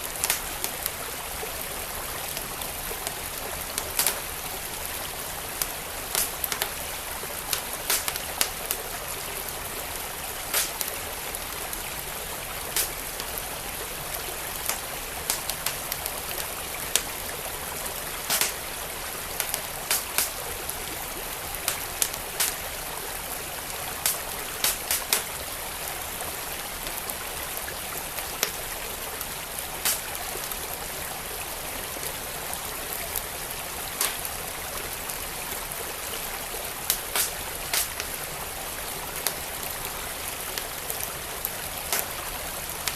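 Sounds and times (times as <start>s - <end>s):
flowing stream rushing: 0.0s - 42.9s
wood fire crackling: 0.0s - 42.9s.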